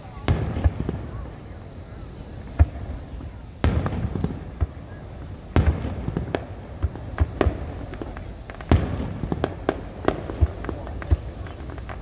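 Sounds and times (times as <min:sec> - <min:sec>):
firework shells booming: 0:00.0 - 0:12.0
small firework cracks: 0:00.0 - 0:12.0.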